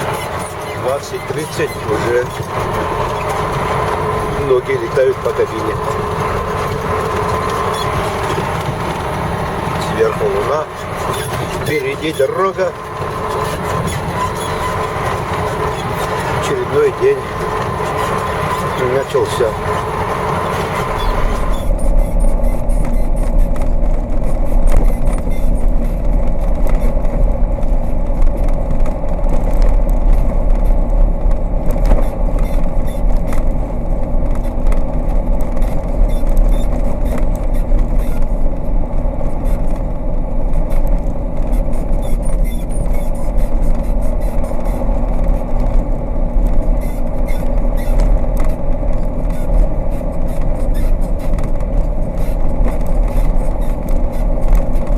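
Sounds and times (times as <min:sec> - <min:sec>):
truck diesel engine rumble: 0:00.0 - 0:54.9
truck knocking and rattling: 0:00.0 - 0:54.9.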